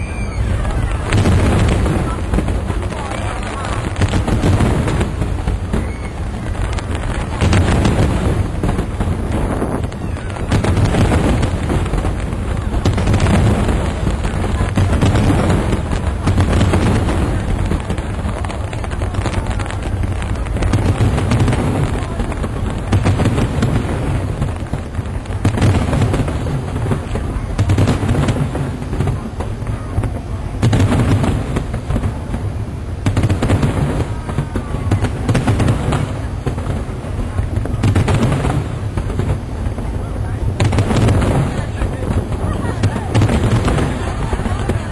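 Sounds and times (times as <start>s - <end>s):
fireworks booms and crackles: 0.0s - 44.9s.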